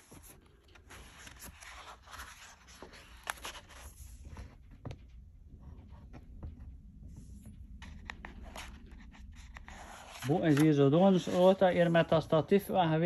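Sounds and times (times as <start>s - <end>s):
book pages turning: 0.0s - 12.4s.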